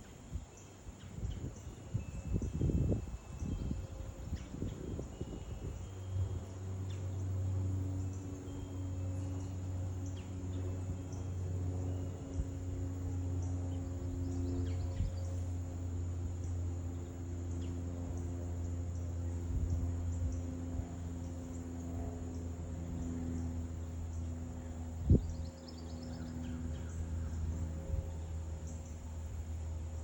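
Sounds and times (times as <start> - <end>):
high insect trill: 0.0 - 30.0
low mechanical hum: 0.0 - 30.0.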